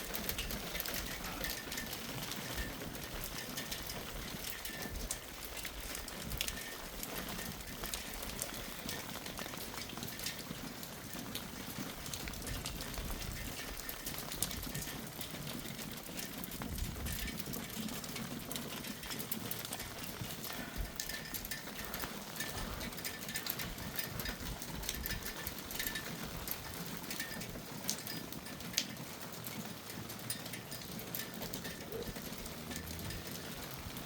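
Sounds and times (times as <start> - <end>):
hailstones pattering: 0.0 - 34.0.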